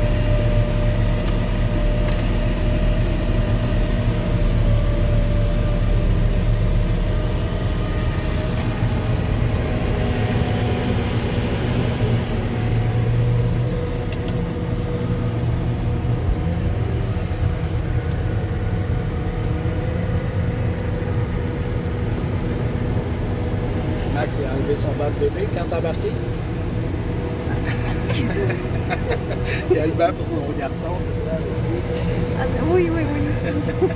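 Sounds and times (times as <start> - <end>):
diesel engine drone: 0.0 - 33.9.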